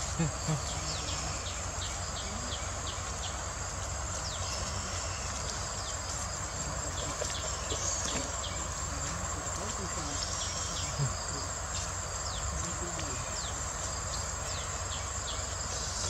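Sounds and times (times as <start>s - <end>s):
insects high-pitched drone: 0.0s - 16.0s.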